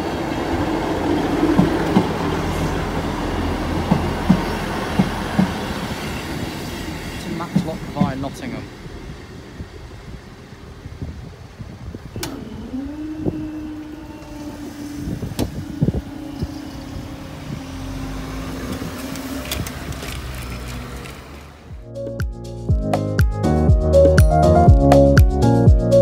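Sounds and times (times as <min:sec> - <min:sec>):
train rumble: 0:00.0 - 0:21.9
diesel train engine drone: 0:00.0 - 0:22.1.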